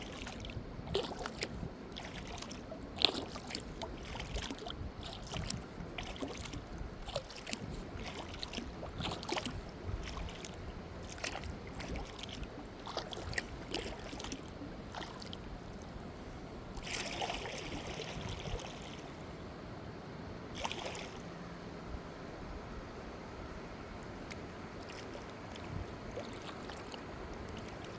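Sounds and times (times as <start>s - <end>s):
water drips and splashes: 0.0s - 16.0s, 16.8s - 19.0s, 20.6s - 21.2s, 24.3s - 27.9s
kayak paddle in water: 0.0s - 19.7s, 20.5s - 21.5s, 23.7s - 27.9s.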